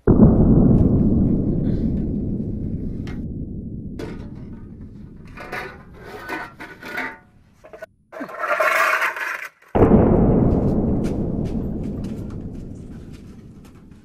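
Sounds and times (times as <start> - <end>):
loud deep boom: 0.0 - 7.7, 9.8 - 14.0.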